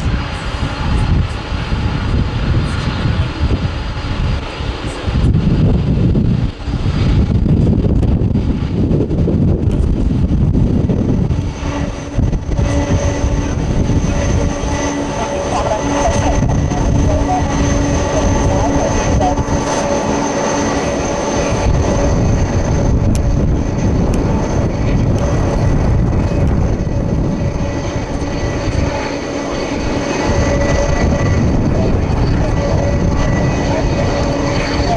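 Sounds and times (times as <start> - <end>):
jet engines rumbling: 0.0 - 34.9
steady whining tones: 0.0 - 34.9.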